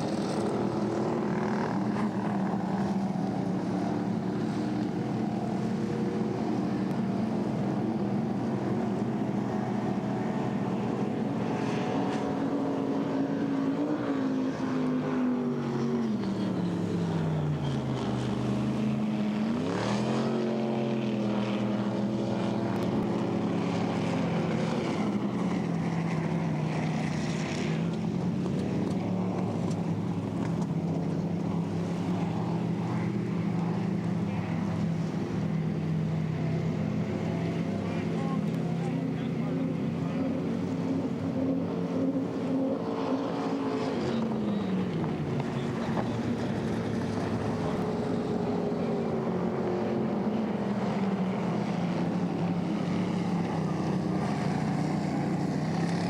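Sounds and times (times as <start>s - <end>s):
racing boat engines running: 0.0s - 56.0s.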